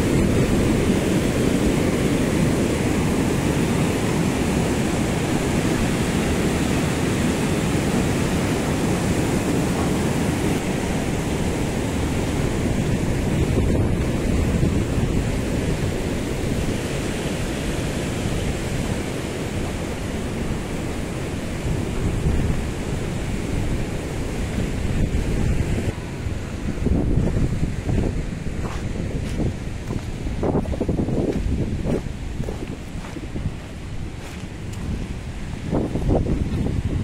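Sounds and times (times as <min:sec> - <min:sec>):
river rapids rushing: 0:00.0 - 0:36.7
wind rumbling on microphone: 0:00.0 - 0:37.0.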